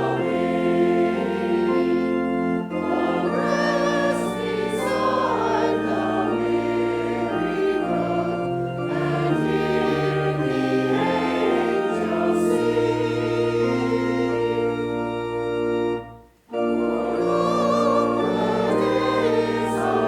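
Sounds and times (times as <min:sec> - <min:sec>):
choir singing: 0:00.0 - 0:20.0
organ chords: 0:00.0 - 0:20.0.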